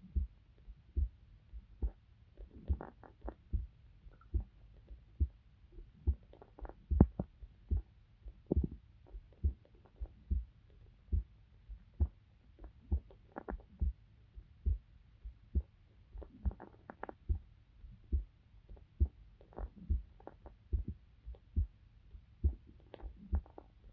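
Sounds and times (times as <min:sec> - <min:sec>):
heartbeat thumps: 0:00.0 - 0:04.6, 0:05.2 - 0:23.6.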